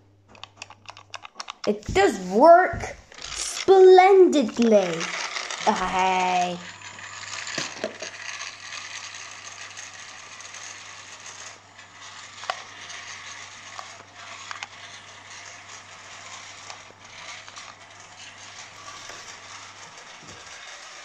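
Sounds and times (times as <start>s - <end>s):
toy helicopter motor whirring: 0.4s - 21.0s.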